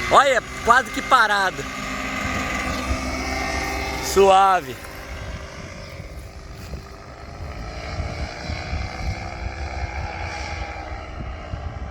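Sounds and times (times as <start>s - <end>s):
distant engine and propeller droning: 0.0s - 11.9s
wind rumble on microphone: 0.0s - 11.9s.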